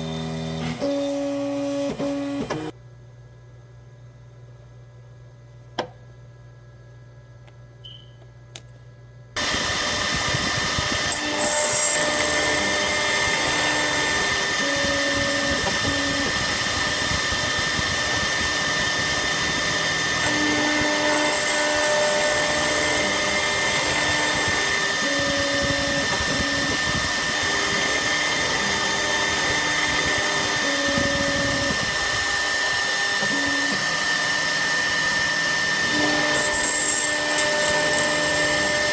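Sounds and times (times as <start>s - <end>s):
stepper motors humming: 0.0s - 2.7s, 9.4s - 38.9s
spindle motor high whine: 0.0s - 2.8s, 9.4s - 38.9s.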